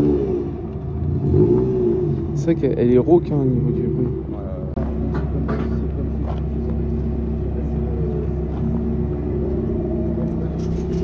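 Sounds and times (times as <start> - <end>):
car engine running with raspy exhaust: 0.0 - 11.0.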